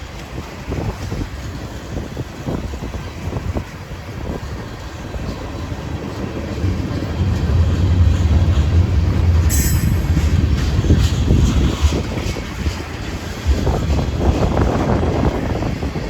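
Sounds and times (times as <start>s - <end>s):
freight train rumbling past: 0.0s - 16.0s
train wheel squeal: 2.6s - 16.0s.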